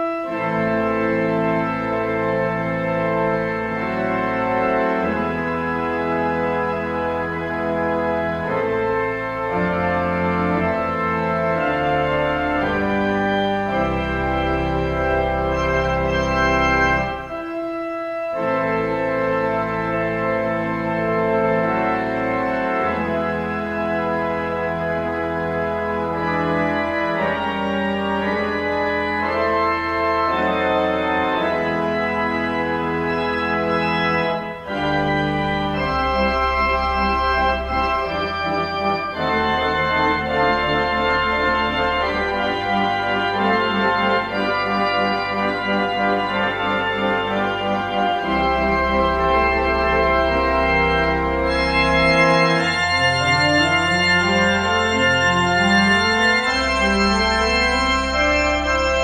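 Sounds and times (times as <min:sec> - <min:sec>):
organ music: 0:00.0 - 0:59.0.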